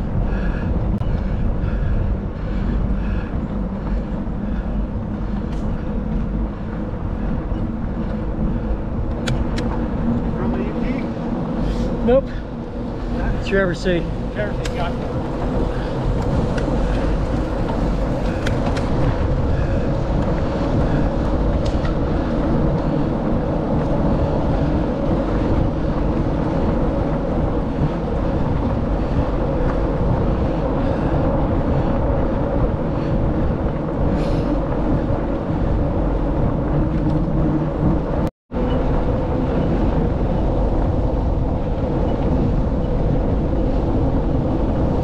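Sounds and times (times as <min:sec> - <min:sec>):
tyre rumble on gravel road: 0:01.6 - 0:37.8.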